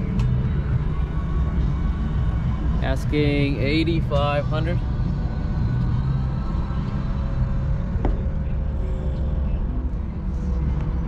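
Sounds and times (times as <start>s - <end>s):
engine rumbling: 0.0s - 11.0s
faint steady hum: 0.0s - 11.0s.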